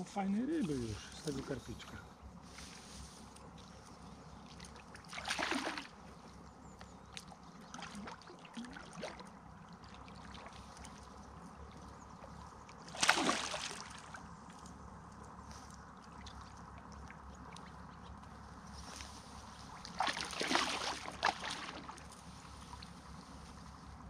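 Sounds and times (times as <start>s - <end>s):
fish splashing in water: 3.7s - 14.6s, 15.3s - 23.7s.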